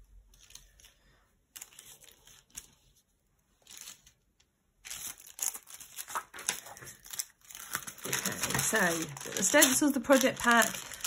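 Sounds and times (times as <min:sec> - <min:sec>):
craft items rustling: 0:00.2 - 0:11.0.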